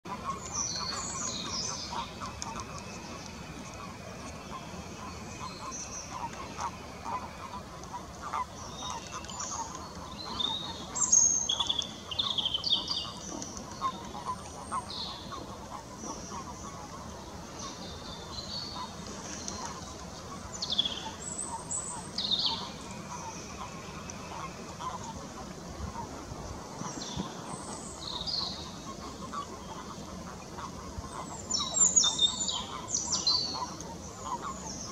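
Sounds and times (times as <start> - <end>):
songbirds chirping and whistling: 0.1 - 26.1, 26.7 - 34.9.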